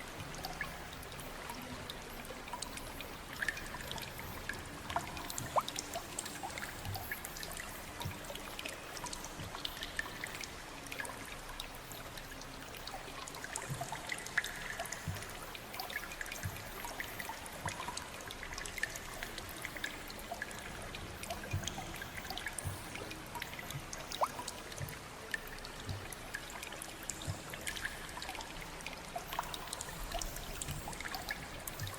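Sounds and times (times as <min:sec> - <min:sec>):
water drips and splashes: 0:00.0 - 0:31.9
water trickling: 0:00.0 - 0:31.9.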